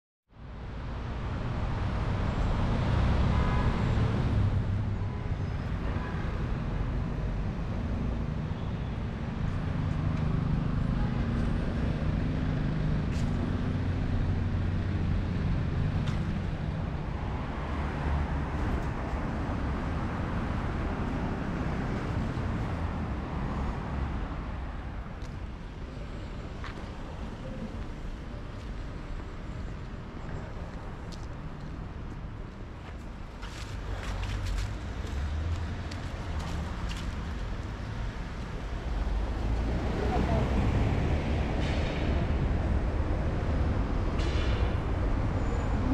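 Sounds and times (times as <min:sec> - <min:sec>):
vehicles passing: 0:00.4 - 0:45.9.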